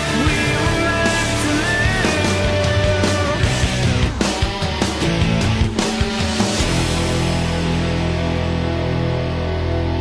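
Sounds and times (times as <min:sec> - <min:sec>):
rock guitar chords: 0:00.0 - 0:10.0.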